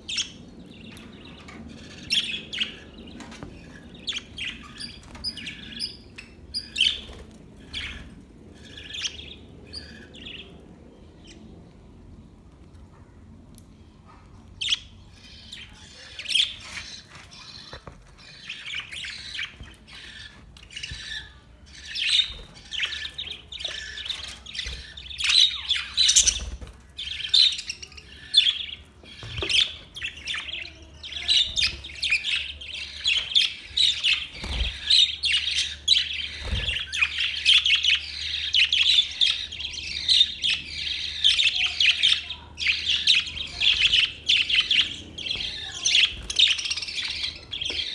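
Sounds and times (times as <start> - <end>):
budgerigars chirping and squawking: 0.0 - 11.4, 14.1 - 47.9.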